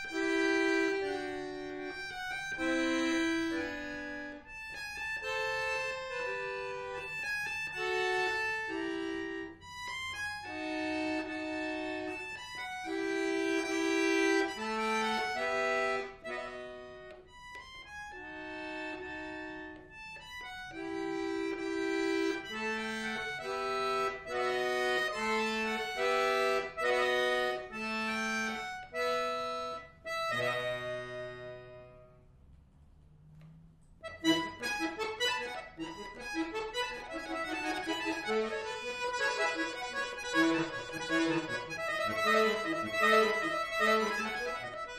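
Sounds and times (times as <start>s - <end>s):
accordion playing classical piece: 0.0s - 32.3s, 33.4s - 44.9s.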